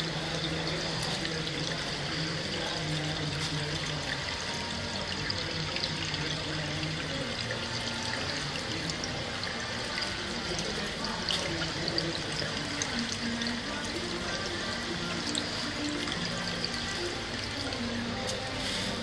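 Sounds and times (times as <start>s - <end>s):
water drips: 0.0s - 19.0s
water running and splashing: 0.0s - 19.0s.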